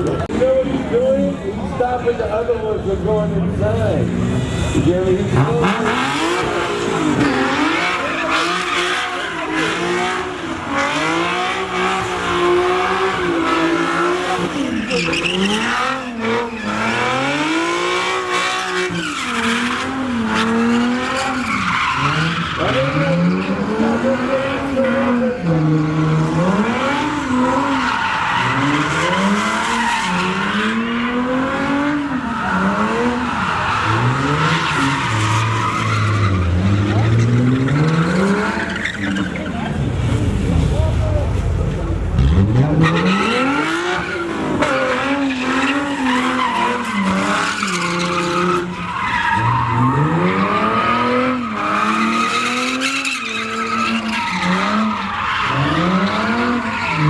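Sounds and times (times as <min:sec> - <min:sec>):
car engines revving hard: 0:00.0 - 0:57.0
tires squealing: 0:00.0 - 0:57.0.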